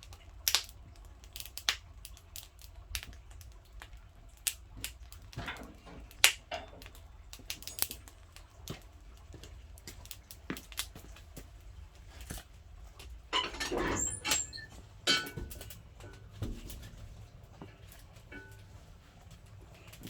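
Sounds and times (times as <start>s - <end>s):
clatter in a stove: 0.0s - 20.0s
firewood crackling and popping: 0.0s - 20.0s.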